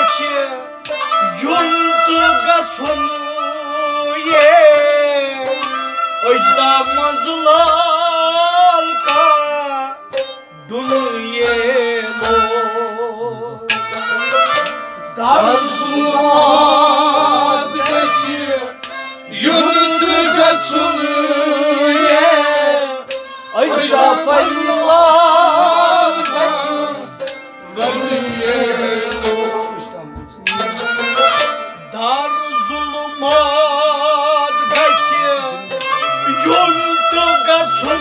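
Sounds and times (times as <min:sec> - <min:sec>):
men singing: 0:00.0 - 0:09.9, 0:10.7 - 0:13.6, 0:15.2 - 0:30.0, 0:32.0 - 0:38.0.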